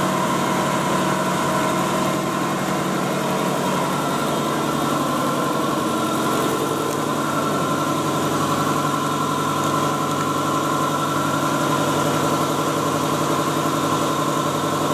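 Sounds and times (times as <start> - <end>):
high machine whine: 0.0 - 14.9
machine mechanical hum: 0.0 - 14.9.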